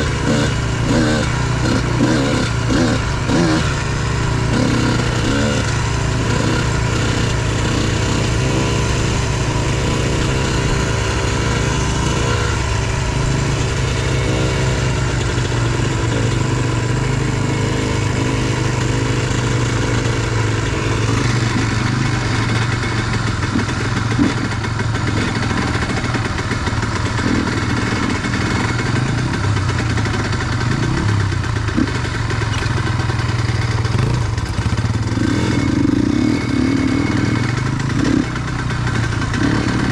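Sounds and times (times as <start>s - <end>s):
another dirt bike engine: 0.0s - 39.9s
dirt bike engine running: 0.0s - 39.9s.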